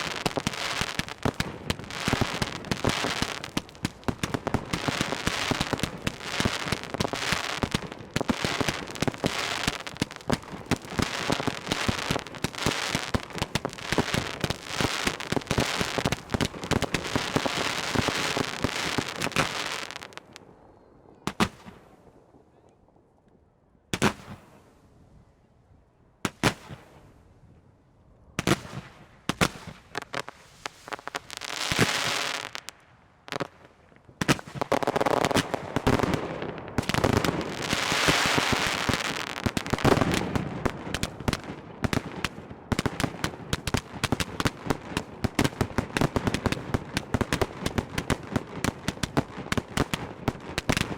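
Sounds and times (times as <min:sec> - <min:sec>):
fireworks bangs and crackling: 0:00.0 - 0:22.6, 0:23.9 - 0:24.8, 0:26.3 - 0:27.2, 0:28.4 - 0:50.9.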